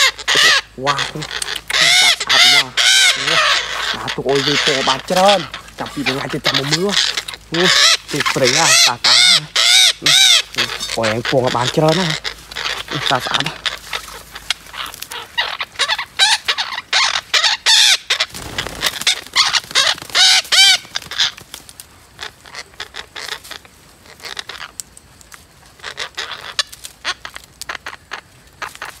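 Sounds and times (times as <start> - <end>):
parrots squawking: 0.0 - 21.4, 22.1 - 24.8, 25.6 - 29.0.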